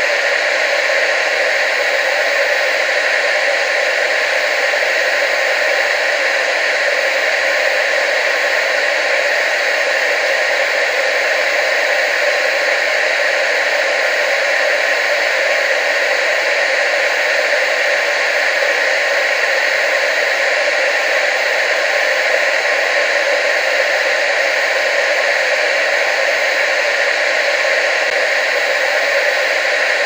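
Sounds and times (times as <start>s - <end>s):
tv static hiss: 0.0s - 30.0s.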